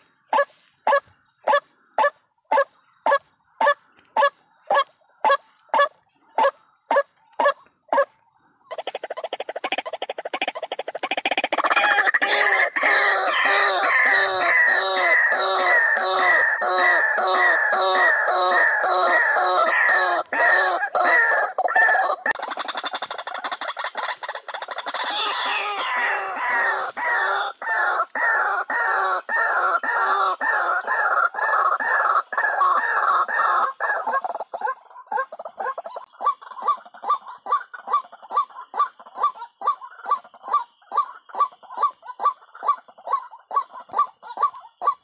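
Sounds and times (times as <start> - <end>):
waterhen harsh croaking call: 8.7 - 45.0.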